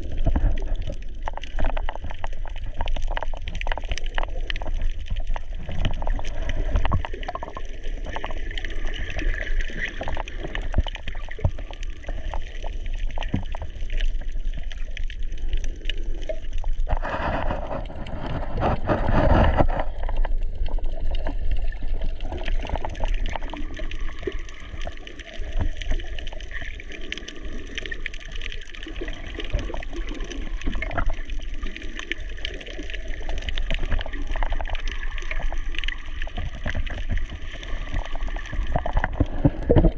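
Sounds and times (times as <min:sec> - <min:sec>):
muffled underwater water rush: 0:00.0 - 0:39.9
surge of water: 0:00.0 - 0:39.9.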